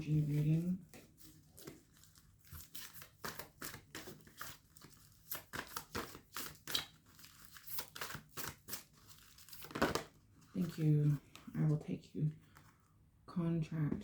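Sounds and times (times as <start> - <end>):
cards being shuffled: 0.2 - 11.6.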